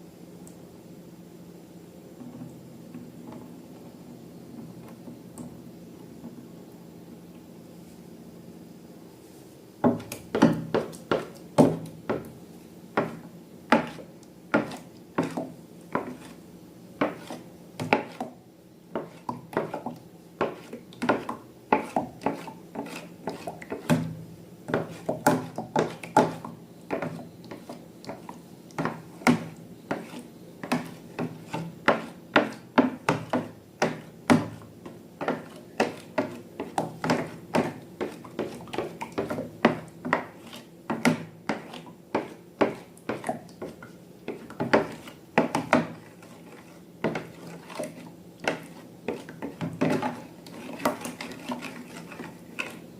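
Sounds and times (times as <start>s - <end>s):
slime being mixed in a bowl: 9.8s - 52.9s.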